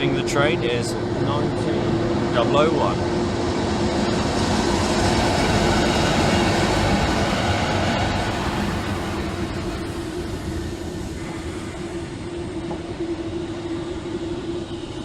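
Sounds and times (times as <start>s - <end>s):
locomotive hum: 0.0s - 15.0s
train rail rumble: 0.0s - 15.0s.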